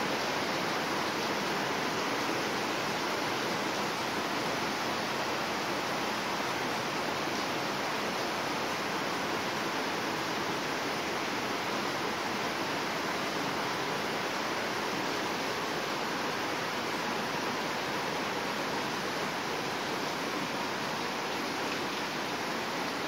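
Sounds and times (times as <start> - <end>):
heavy rain on foliage and road: 0.0 - 23.0.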